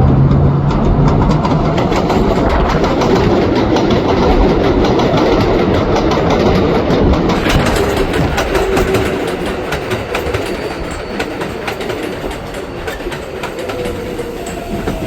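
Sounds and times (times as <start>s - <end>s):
train rumble and hum: 0.0s - 15.0s
train wheels clicking over rail joints: 0.2s - 15.0s.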